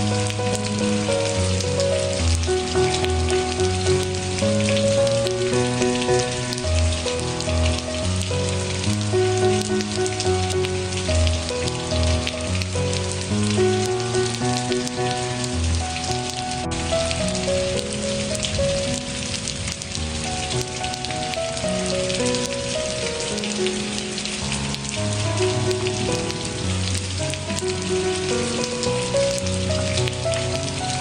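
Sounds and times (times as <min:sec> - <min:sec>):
rain pattering: 0:00.0 - 0:31.0
soft instrumental melody: 0:00.0 - 0:31.0.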